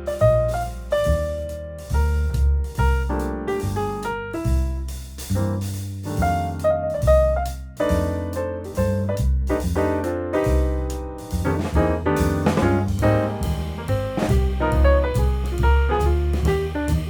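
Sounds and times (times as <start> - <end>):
jazzy piano with bass line: 0.0 - 17.0.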